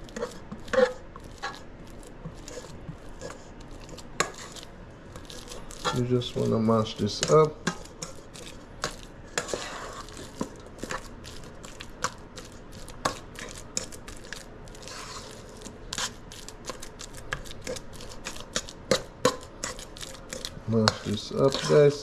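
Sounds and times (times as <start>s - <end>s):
bananas being mashed: 0.0s - 22.0s.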